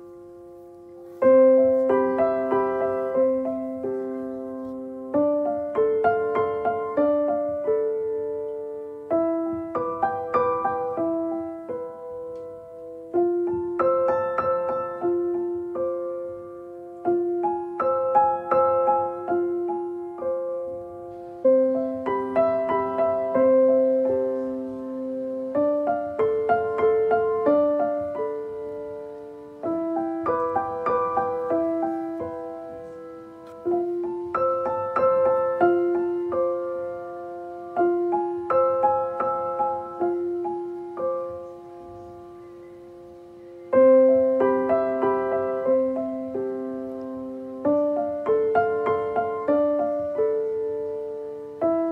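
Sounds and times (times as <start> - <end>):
gentle piano music: 0.0 - 51.9.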